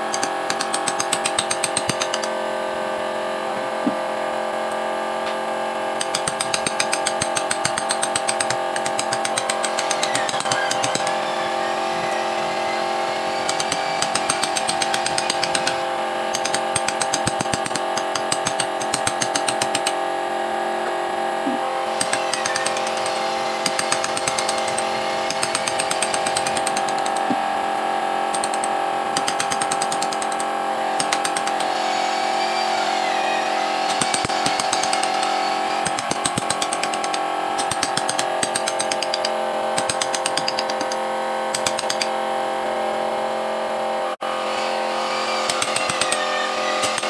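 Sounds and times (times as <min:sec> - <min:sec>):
power tool cutting wood: 0:00.0 - 0:47.0.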